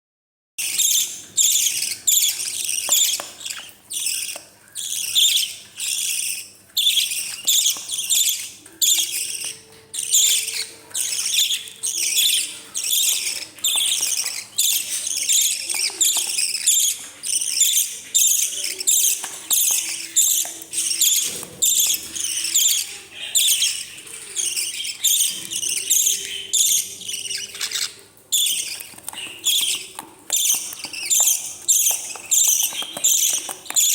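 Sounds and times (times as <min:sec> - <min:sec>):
parrot chicks begging calls: 0:00.6 - 0:33.9.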